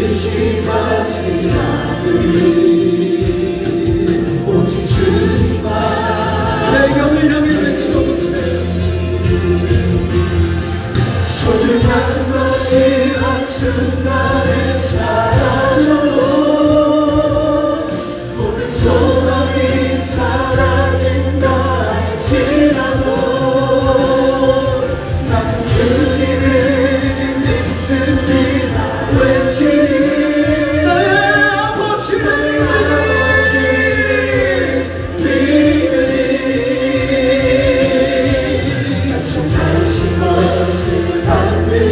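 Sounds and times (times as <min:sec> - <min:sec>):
choir singing gospel song: 0:00.0 - 0:41.9
instrumental accompaniment with bass: 0:00.0 - 0:41.9.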